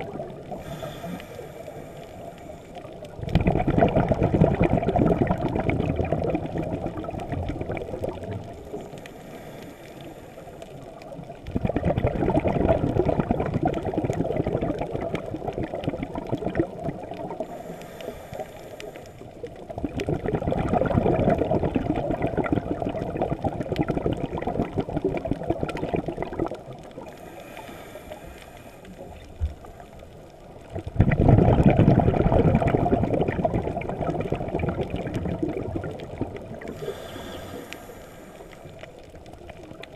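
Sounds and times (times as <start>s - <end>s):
underwater rushing water: 0.0s - 39.9s.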